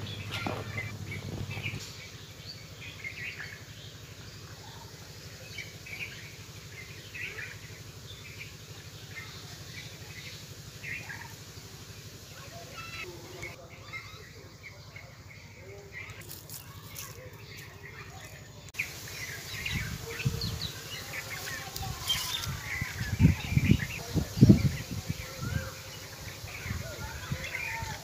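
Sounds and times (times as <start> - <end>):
low background hum: 0.0 - 28.0
small birds chirping: 0.0 - 28.0.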